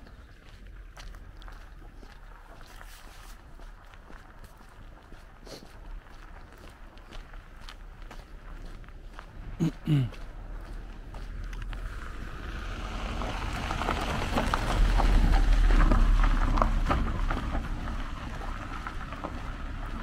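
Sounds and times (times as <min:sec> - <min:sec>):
low car engine hum: 0:00.0 - 0:20.0
tyres crunching over gravel: 0:00.0 - 0:20.0.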